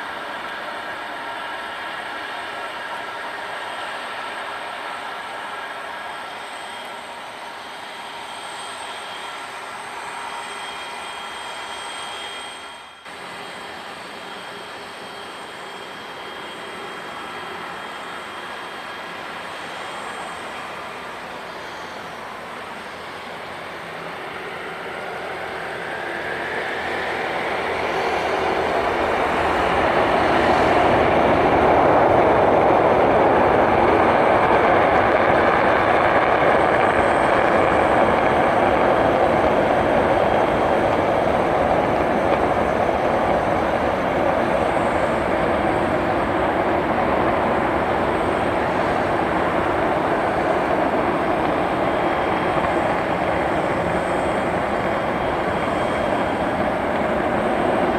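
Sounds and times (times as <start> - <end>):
jet engines roaring: 0.0 - 57.9.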